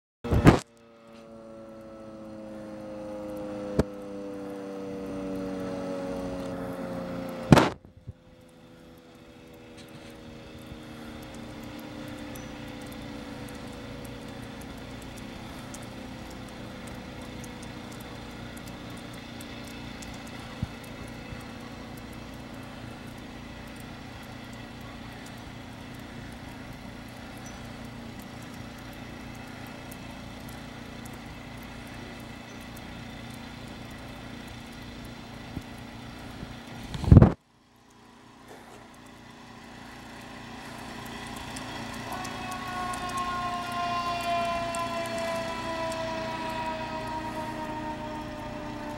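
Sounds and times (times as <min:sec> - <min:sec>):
engine drone: 0:00.2 - 0:48.9
fire engine siren wail: 0:00.2 - 0:48.9.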